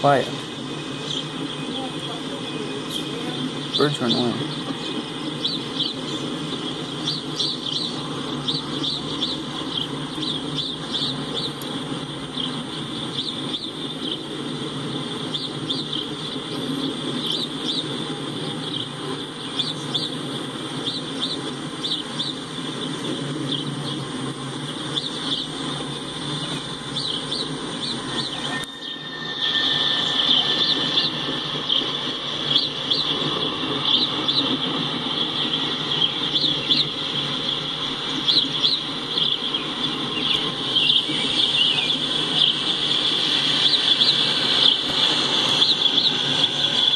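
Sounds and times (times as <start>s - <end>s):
birds chirping: 0.0s - 46.9s
train cars rolling: 0.0s - 46.9s.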